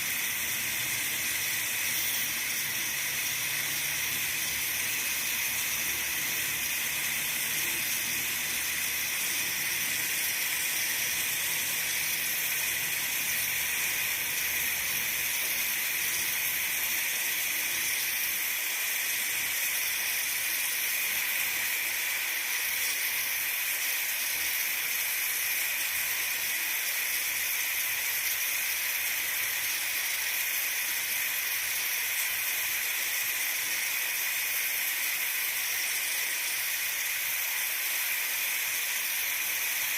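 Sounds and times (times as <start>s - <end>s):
pressure cooker steam hiss: 0.0s - 39.9s.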